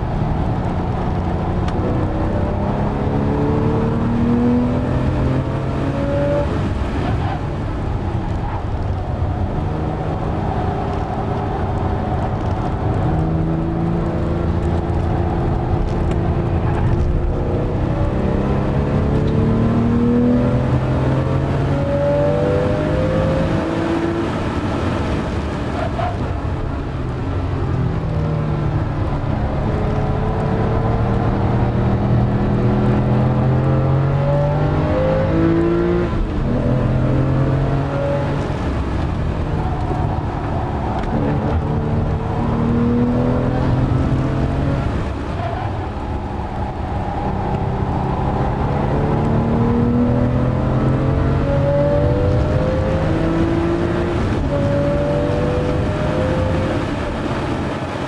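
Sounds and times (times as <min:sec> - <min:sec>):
car engine accelerating through gears: 0:00.0 - 0:58.0
road and tyre noise: 0:00.0 - 0:58.0.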